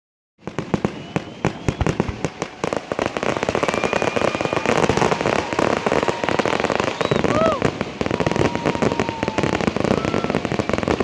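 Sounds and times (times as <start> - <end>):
fireworks banging and crackling: 0.4 - 11.0.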